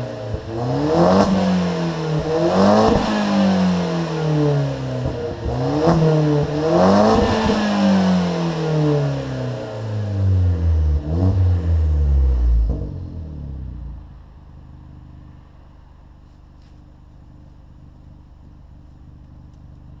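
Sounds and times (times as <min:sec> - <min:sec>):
car engine revving and idling: 0:00.0 - 0:20.0.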